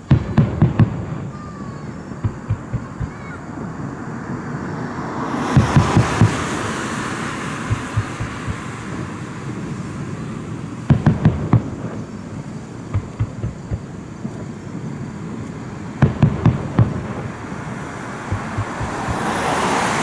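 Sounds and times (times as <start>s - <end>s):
distant fireworks booming: 0.0s - 20.0s
steady low rumble: 2.0s - 20.0s.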